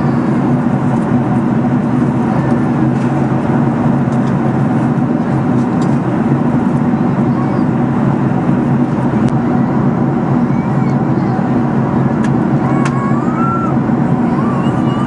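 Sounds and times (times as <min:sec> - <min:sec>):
jet cabin engine and airflow rush: 0:00.0 - 0:15.0.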